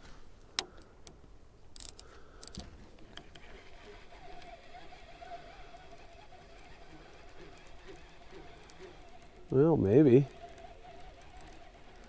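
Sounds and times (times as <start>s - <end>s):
fishing reel clicking and rattling: 1.8s - 12.0s.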